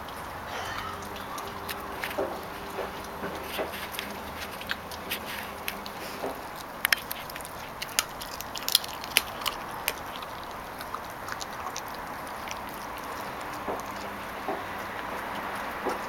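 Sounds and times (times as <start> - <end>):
puppy gnawing bone cracking: 0.0 - 16.0.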